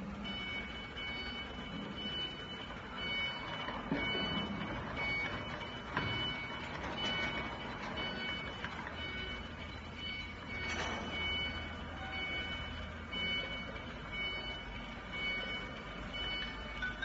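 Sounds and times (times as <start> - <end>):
two-tone alarm beeping: 0.2 - 17.0.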